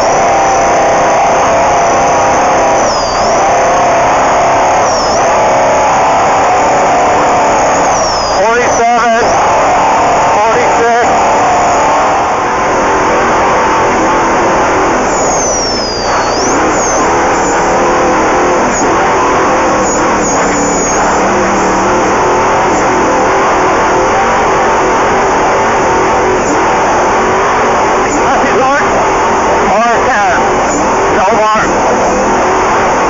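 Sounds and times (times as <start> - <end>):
race vehicle engine running hard: 0.0 - 33.0.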